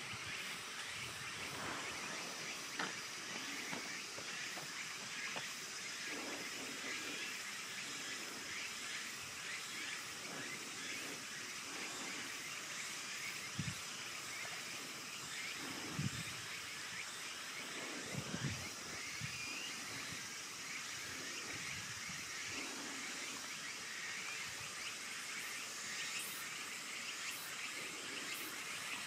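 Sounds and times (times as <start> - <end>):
steady hiss: 0.0 - 29.0.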